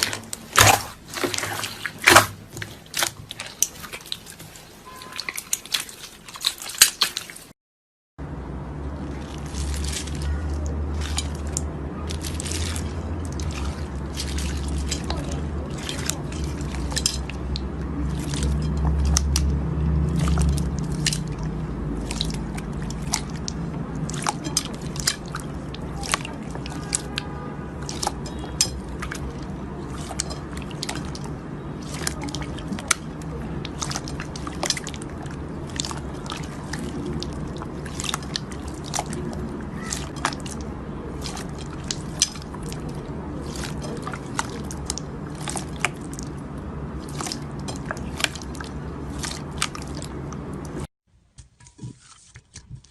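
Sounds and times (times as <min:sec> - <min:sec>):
slime squishing by hand: 0:00.0 - 0:07.5, 0:08.9 - 0:52.9.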